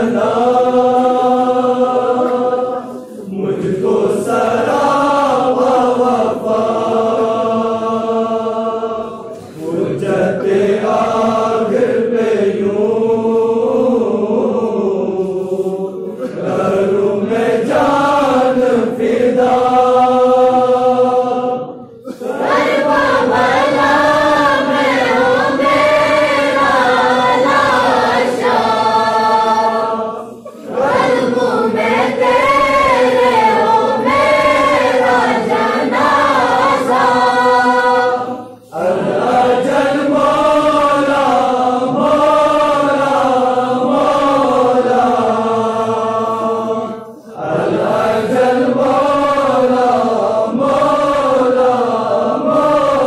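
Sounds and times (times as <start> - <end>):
male voices chanting in unison: 0.0 - 53.0.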